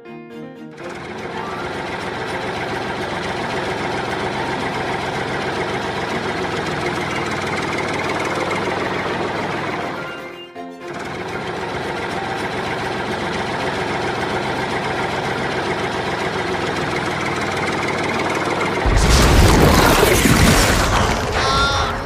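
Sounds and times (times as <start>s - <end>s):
motor engine rattling: 0.8s - 10.1s, 10.9s - 22.0s.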